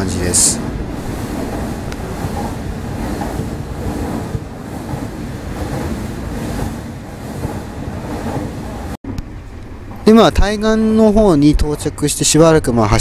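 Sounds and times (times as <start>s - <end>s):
train wheels rumbling: 0.0s - 12.9s.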